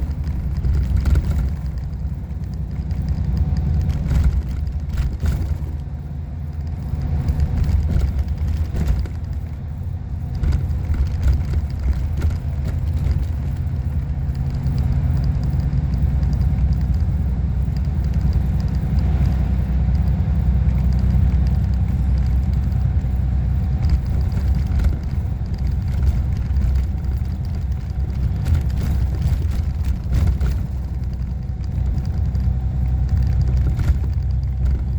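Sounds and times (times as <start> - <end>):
motor vehicle engine rumble: 0.0 - 34.9.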